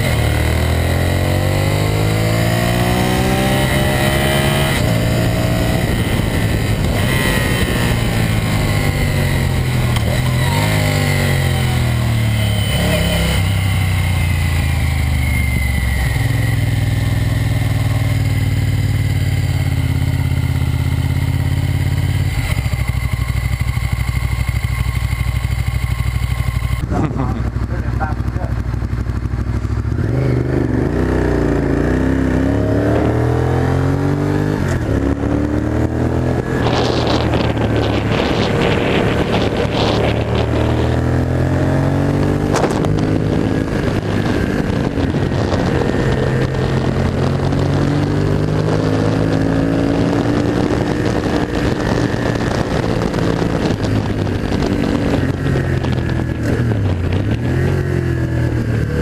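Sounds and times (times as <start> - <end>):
wind rushing over microphone: 0.0 - 27.3, 28.8 - 59.0
motorcycle engine accelerating: 0.0 - 59.0.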